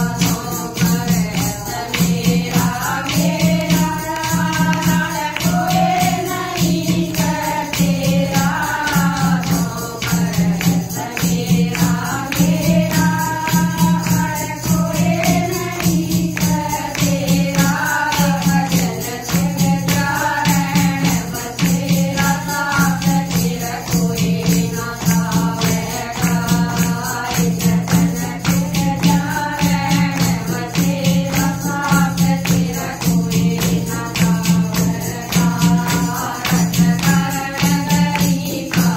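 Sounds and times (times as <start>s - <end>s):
clay pot drum beat: 0.0s - 38.9s
hand clapping: 0.0s - 38.9s
women singing together: 0.0s - 38.9s.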